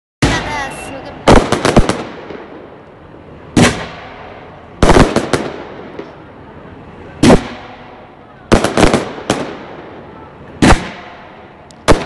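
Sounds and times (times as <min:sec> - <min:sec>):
firework bangs: 0:00.2 - 0:12.0.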